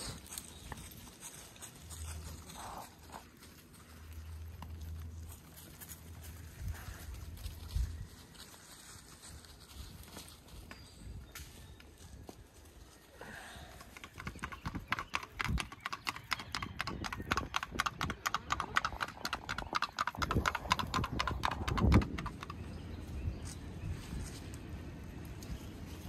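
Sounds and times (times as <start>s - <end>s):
hooves clip-clopping on pavement: 0.0s - 26.0s.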